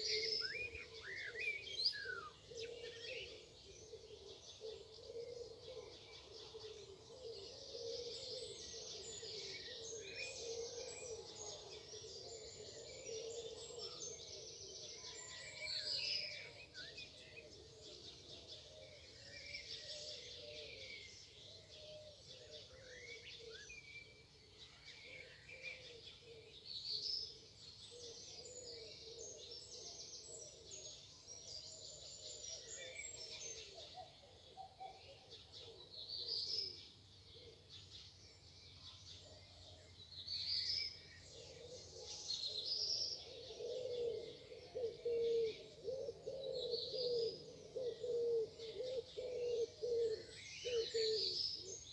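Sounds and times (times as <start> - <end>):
birds singing and chirping: 0.0 - 51.9.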